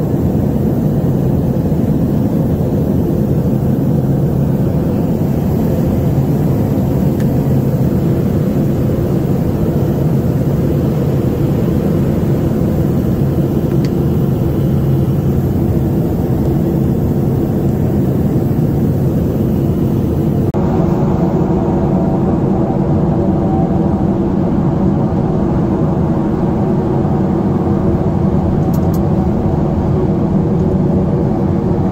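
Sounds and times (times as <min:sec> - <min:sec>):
aircraft engine drone in cabin: 0:00.0 - 0:31.9
steady whine: 0:00.0 - 0:31.9.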